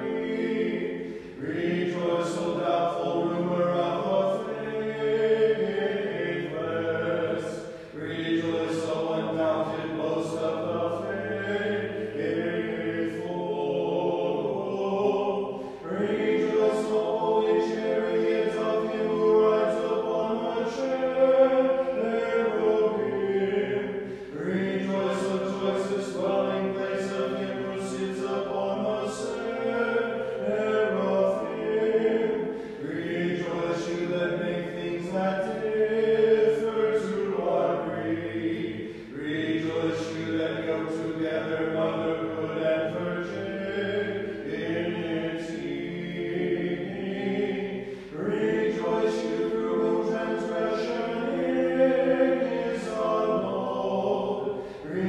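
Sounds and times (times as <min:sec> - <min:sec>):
voices singing chant in harmony: 0:00.0 - 0:55.0.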